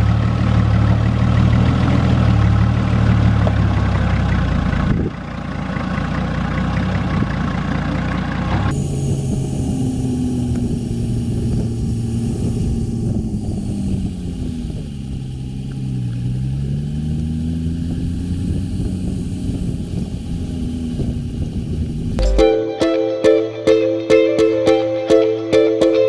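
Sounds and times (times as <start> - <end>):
road noise: 0.0 - 22.2
vehicle engine running: 0.0 - 22.4.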